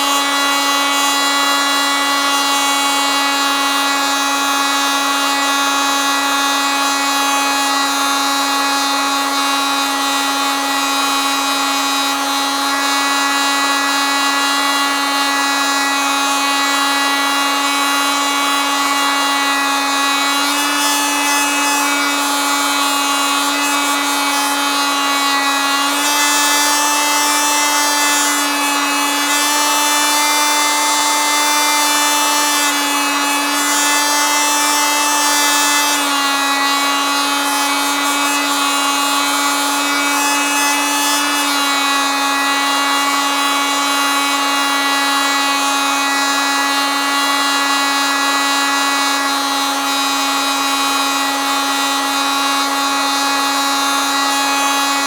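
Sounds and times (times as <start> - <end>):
oscillating multitool buzzing: 0.0 - 55.0.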